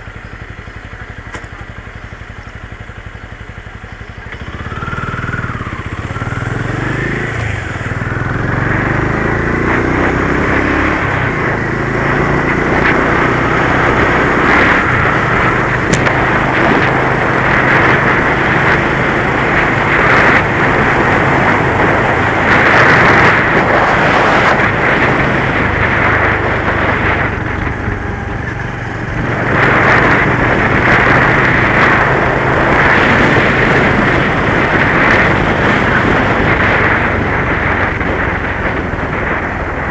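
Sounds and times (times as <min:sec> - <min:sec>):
motorcycle accelerating: 0:00.0 - 0:39.9
road noise: 0:00.0 - 0:39.9.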